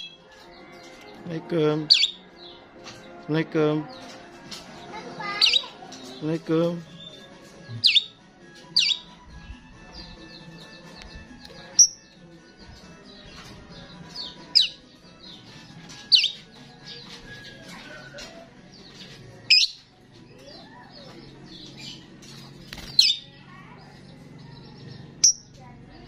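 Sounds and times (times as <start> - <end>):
starling chattering and chirping: 1.8 - 2.6, 3.9 - 6.2, 6.8 - 26.0.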